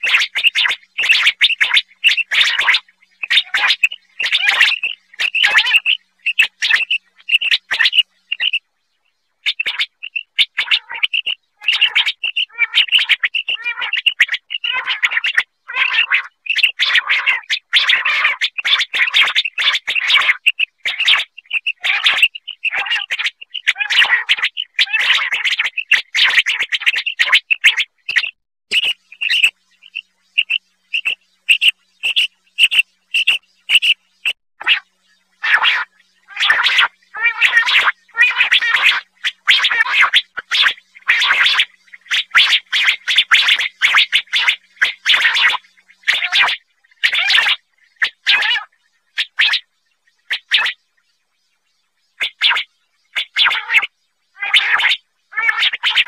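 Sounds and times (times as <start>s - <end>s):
quail calling: 0.0s - 8.6s, 9.4s - 49.6s, 52.2s - 56.0s.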